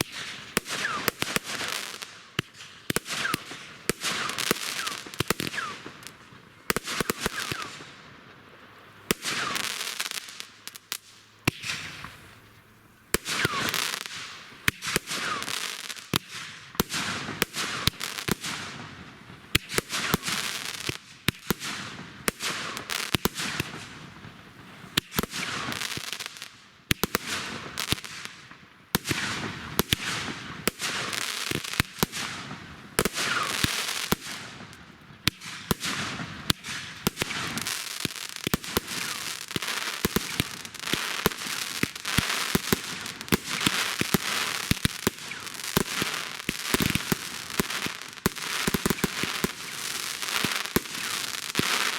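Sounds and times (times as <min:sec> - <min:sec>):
fireworks whistling: 0:00.0 - 0:07.9, 0:09.1 - 0:10.9, 0:11.5 - 0:12.5, 0:13.1 - 0:18.8, 0:19.6 - 0:23.9, 0:29.0 - 0:51.9
fireworks bangs and pops: 0:00.0 - 0:08.0, 0:09.1 - 0:51.9
fireworks hissing and crackling: 0:00.0 - 0:51.9.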